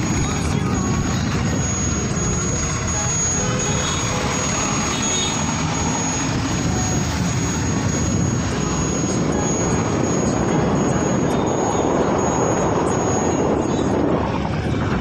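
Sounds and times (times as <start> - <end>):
vehicle rumble and wind noise: 0.0 - 15.0.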